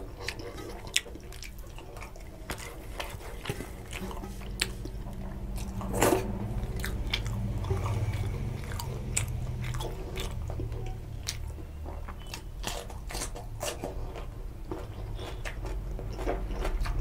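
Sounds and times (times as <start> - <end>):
steady low hum: 0.0 - 17.0
cucumber crunching: 0.1 - 17.0.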